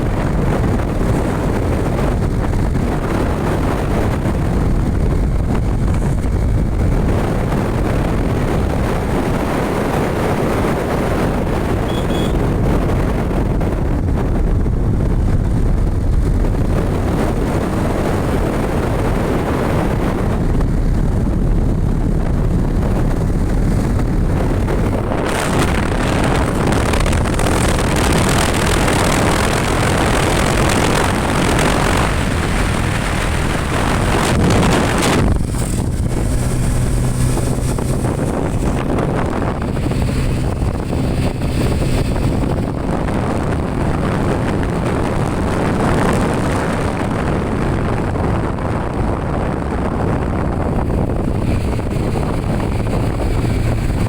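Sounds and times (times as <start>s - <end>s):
motorcycle engine rumbling: 0.0s - 54.0s
wind buffeting on microphone: 0.0s - 54.0s.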